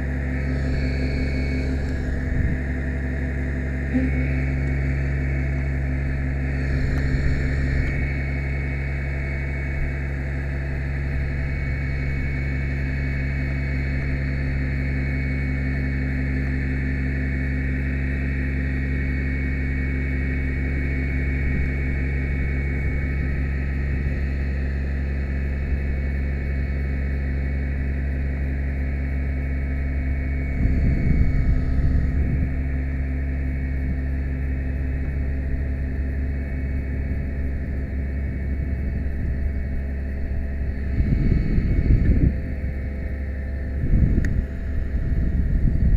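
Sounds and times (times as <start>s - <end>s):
faint high whine: 0.0s - 45.9s
truck engine running: 0.0s - 45.9s.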